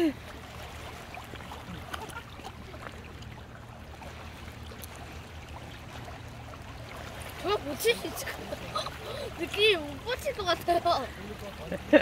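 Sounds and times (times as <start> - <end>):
water lapping around a boat: 0.0 - 12.0.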